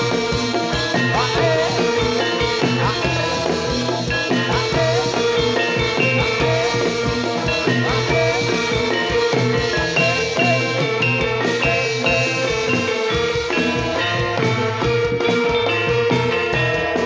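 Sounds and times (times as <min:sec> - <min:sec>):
drums keeping steady beat: 0:00.0 - 0:17.0
gamelan-style ensemble music: 0:00.0 - 0:17.0.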